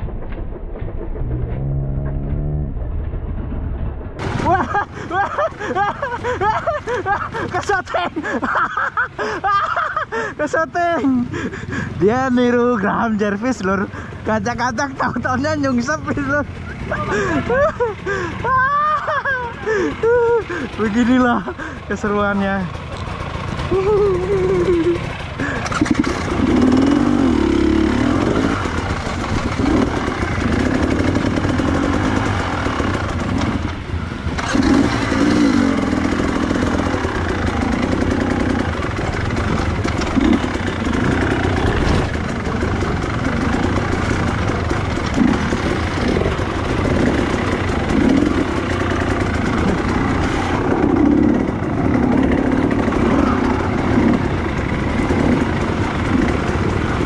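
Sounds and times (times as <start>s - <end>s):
dirt bike engine revving: 0.0s - 3.5s, 4.2s - 8.6s, 11.8s - 57.0s.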